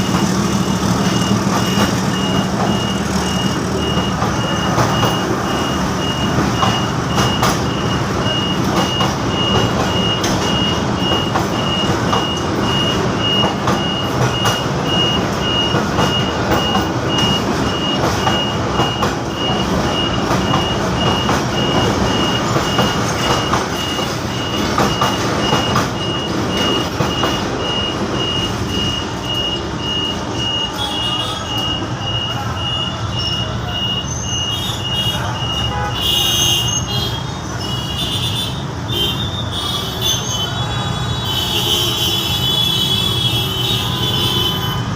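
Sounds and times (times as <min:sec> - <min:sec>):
level crossing alarm beeping: 0:00.0 - 0:37.0
street and traffic noise: 0:00.0 - 0:44.9.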